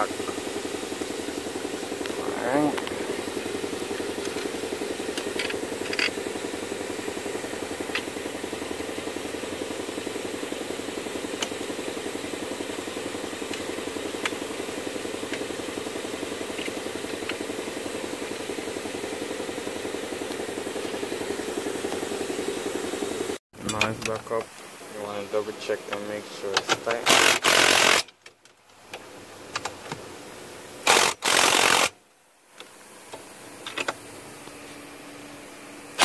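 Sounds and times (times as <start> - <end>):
mechanical hum with flutter: 0.0 - 36.0.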